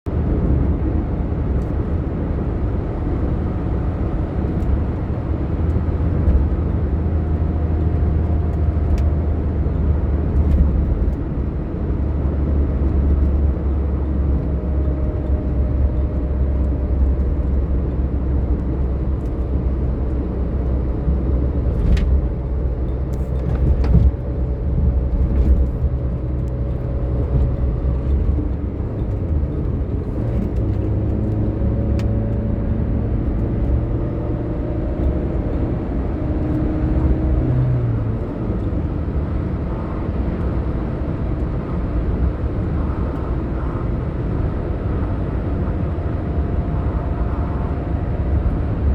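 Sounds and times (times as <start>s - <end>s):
car engine and tyres rumbling: 0.1s - 48.9s.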